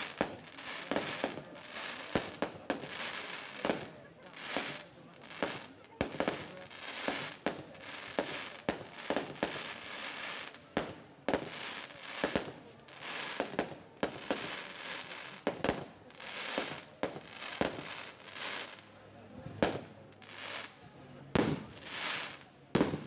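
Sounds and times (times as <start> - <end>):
fireworks bursting bangs: 0.0 - 18.8, 19.5 - 23.0
steady crackling hiss: 0.0 - 23.0.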